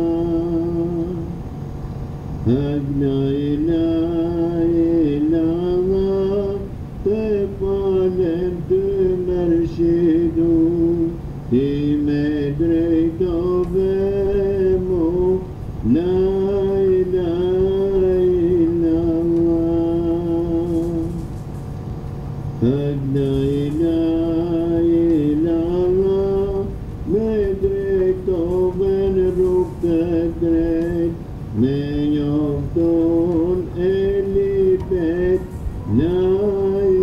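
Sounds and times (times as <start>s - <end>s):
person singing a hymn: 0.0s - 1.4s, 2.4s - 21.4s, 22.6s - 37.0s
steady low drone: 0.0s - 37.0s.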